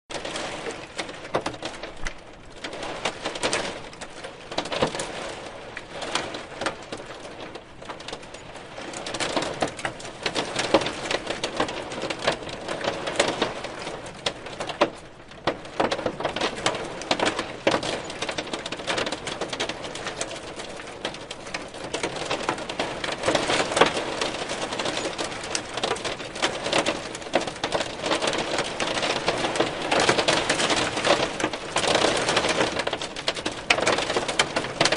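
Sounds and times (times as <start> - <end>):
hailstones striking a hard surface: 6.0 - 34.9.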